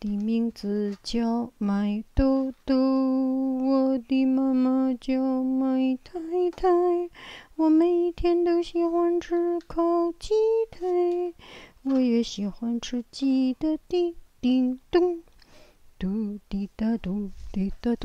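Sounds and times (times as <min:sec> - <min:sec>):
woman singing: 0:00.0 - 0:15.3, 0:16.0 - 0:18.0.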